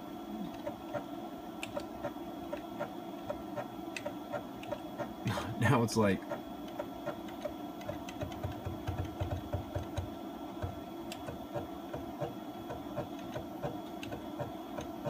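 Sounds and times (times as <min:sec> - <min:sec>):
mill motors humming: 0:00.0 - 0:15.0.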